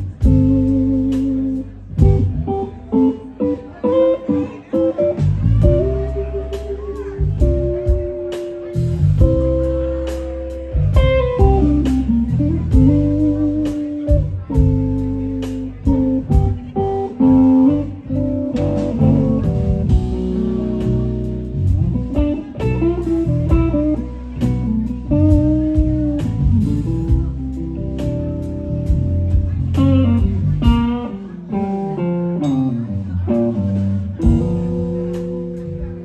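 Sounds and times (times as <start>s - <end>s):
bass guitar: 0.0s - 36.0s
drum kit with cymbals: 0.0s - 36.0s
electric guitar melody: 0.0s - 36.0s.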